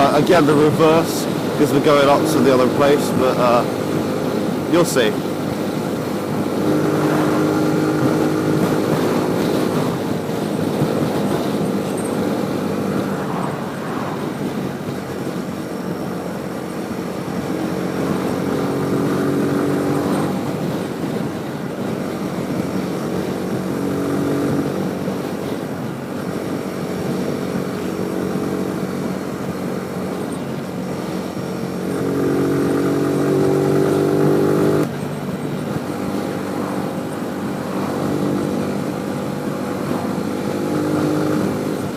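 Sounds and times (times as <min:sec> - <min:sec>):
motorcycle engine revving: 0:00.0 - 0:41.9
wind and road noise: 0:00.0 - 0:41.9.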